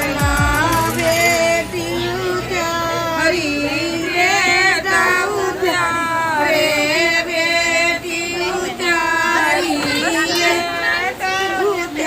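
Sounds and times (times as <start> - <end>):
high singing voice with vibrato: 0.0 - 12.0.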